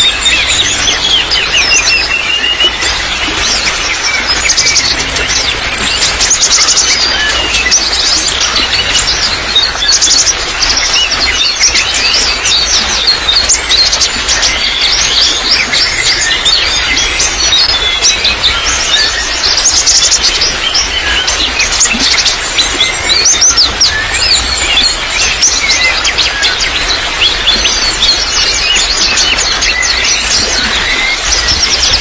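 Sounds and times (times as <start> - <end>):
songbirds chirping and twittering: 0.0 - 32.0
water trickling: 0.0 - 32.0.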